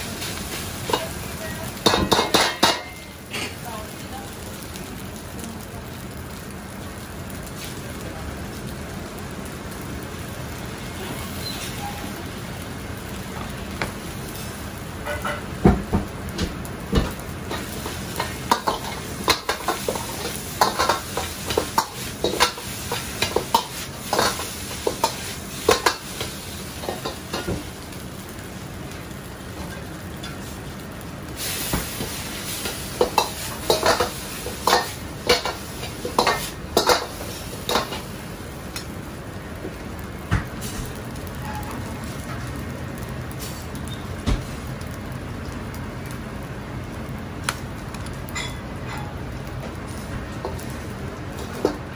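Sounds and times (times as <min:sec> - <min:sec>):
food sizzling: 0:00.0 - 0:51.9
gas burner rushing: 0:10.1 - 0:51.9.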